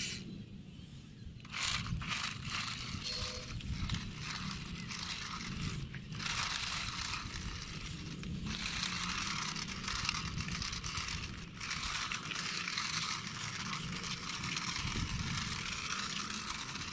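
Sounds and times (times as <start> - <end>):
toy car wheels grinding on concrete: 1.4 - 16.9.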